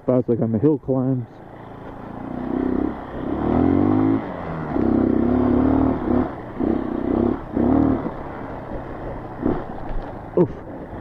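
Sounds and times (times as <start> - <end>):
dirt bike engine revving: 1.2 - 11.0.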